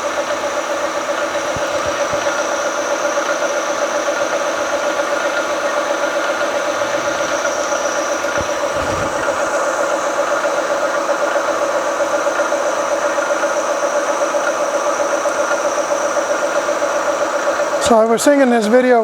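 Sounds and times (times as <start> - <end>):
milling machine motor and gear hum: 0.0 - 19.0.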